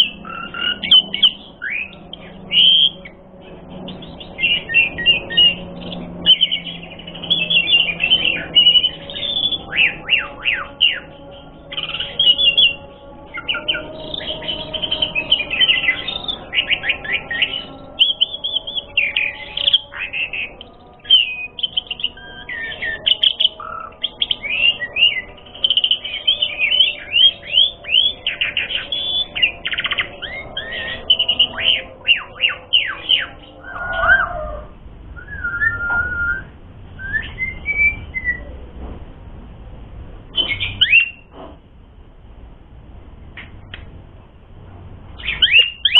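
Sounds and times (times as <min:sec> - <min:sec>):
starling singing chirps and whistles: 0:00.0 - 0:38.5, 0:40.3 - 0:41.4, 0:45.2 - 0:45.9.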